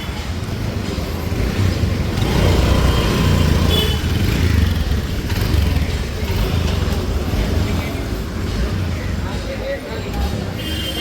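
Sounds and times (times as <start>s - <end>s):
low traffic rumble: 0.0s - 11.0s
vehicle engines running: 0.0s - 11.0s.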